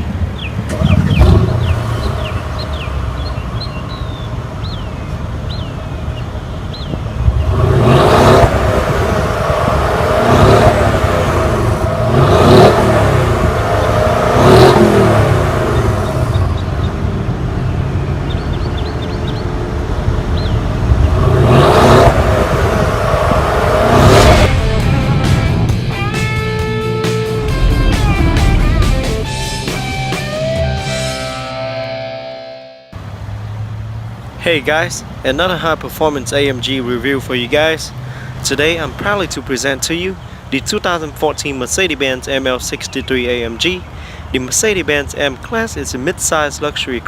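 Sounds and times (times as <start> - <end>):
car engine idling and revving: 0.0 - 32.1, 32.9 - 41.8.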